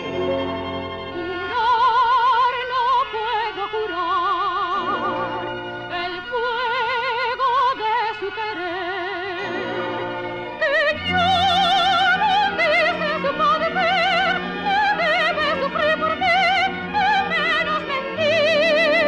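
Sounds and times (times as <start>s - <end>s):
orchestra playing: 0.0s - 3.5s, 4.2s - 8.1s, 8.7s - 19.0s
soprano singing: 0.0s - 19.0s.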